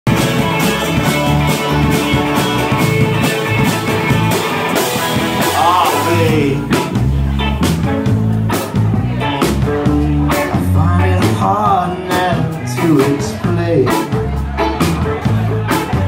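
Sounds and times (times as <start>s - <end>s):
acoustic guitar: 0.1s - 16.0s
second guitar: 0.1s - 16.0s
steady drum beat: 0.1s - 16.0s.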